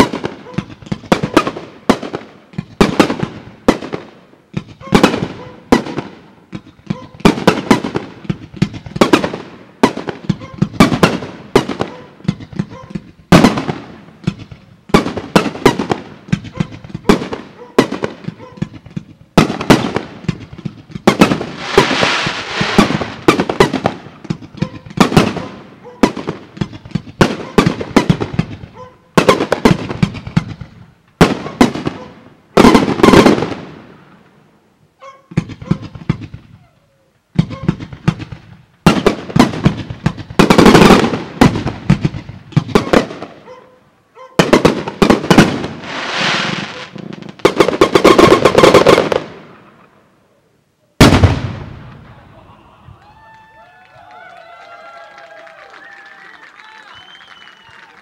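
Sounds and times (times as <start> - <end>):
fireworks bangs: 0.0 - 34.5, 35.3 - 36.7, 37.3 - 43.5, 44.4 - 49.9, 51.0 - 53.0
fireworks crackling: 0.0 - 34.7, 37.3 - 43.5, 44.4 - 50.0, 51.0 - 52.6, 54.0 - 58.0.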